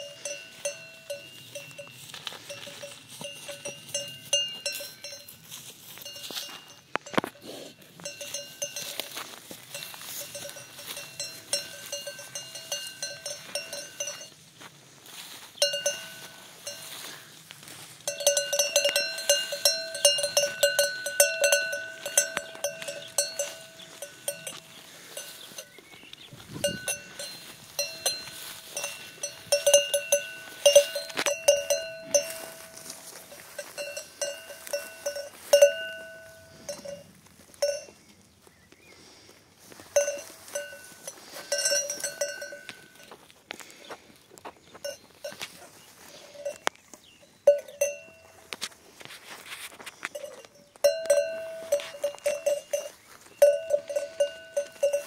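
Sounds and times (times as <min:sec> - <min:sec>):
sheep bells clanking: 0:00.0 - 0:38.2, 0:39.6 - 0:55.0.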